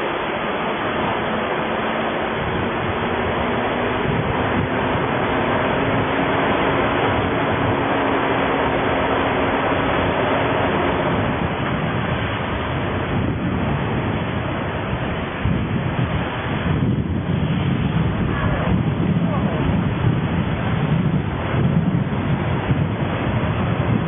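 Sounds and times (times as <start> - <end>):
traffic noise: 0.0 - 19.6
low engine hum: 0.0 - 24.0
wind rush: 0.0 - 24.0.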